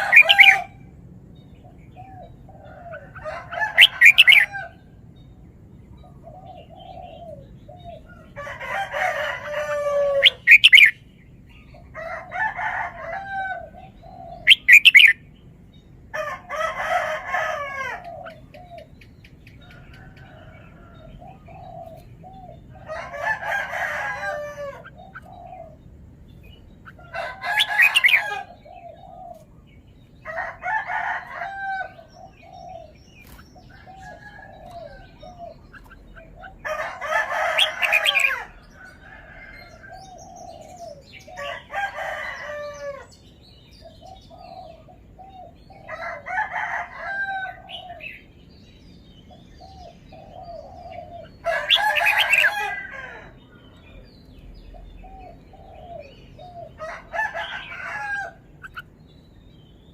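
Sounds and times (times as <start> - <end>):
bird song phrases: 0.0 - 59.9.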